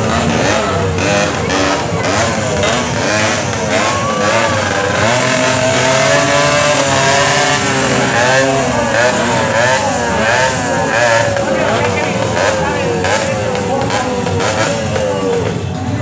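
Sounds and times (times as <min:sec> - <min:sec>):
motorcycle engines idling and revving: 0:00.0 - 0:16.0.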